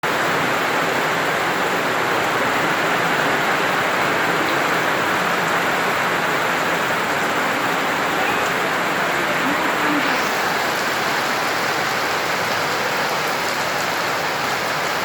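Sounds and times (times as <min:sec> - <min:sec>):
heavy water rushing: 0:00.0 - 0:15.0.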